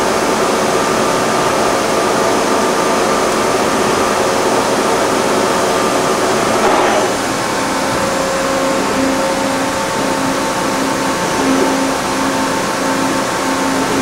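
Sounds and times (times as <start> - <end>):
machine hum with motor whine: 0.0 - 14.0.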